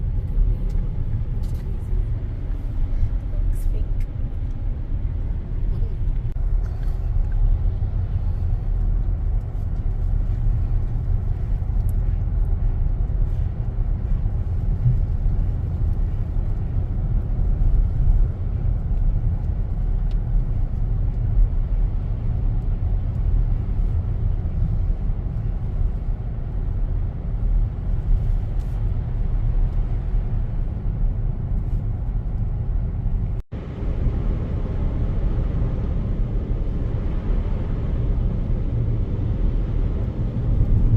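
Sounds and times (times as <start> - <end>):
road and engine noise in car: 0.0 - 40.9.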